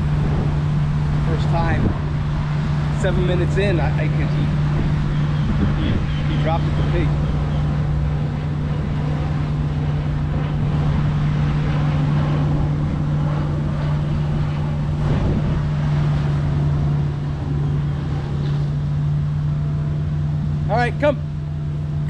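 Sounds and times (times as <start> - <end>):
constant low hum: 0.0 - 22.0
outdoor background noise: 0.0 - 22.0.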